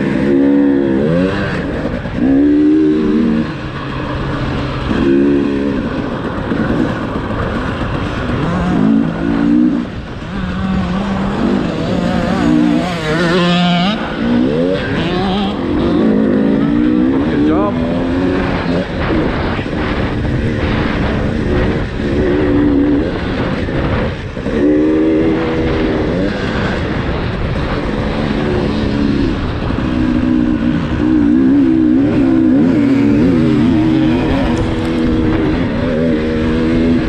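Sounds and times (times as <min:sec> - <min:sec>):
two-stroke engine revving: 0:00.0 - 0:37.0.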